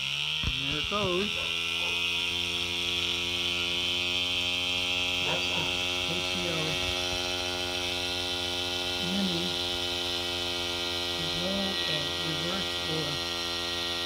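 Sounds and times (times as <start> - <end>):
steam engine buzzing: 0.0 - 14.0.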